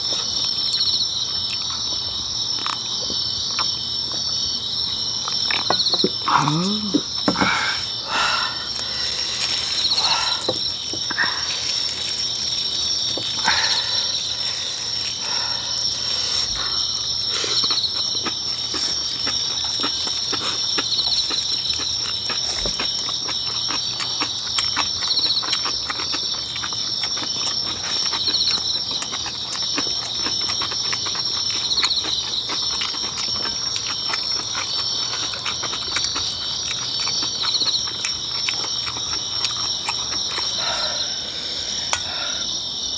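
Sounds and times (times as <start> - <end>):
chewing and clicks of eating: 0.0 - 7.4, 8.7 - 41.1
night insects chirping: 0.0 - 42.9.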